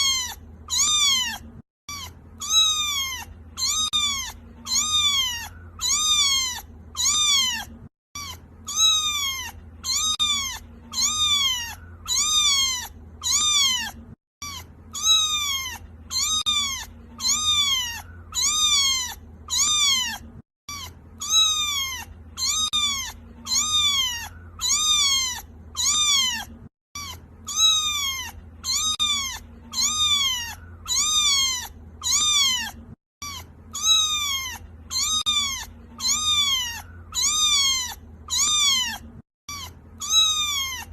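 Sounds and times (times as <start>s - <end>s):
kitten meowing: 0.0s - 40.9s.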